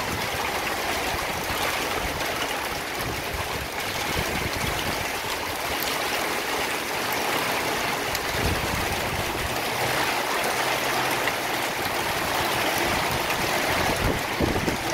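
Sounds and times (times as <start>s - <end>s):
hail pelting down: 0.0s - 14.9s
hailstones ticking: 0.0s - 14.9s.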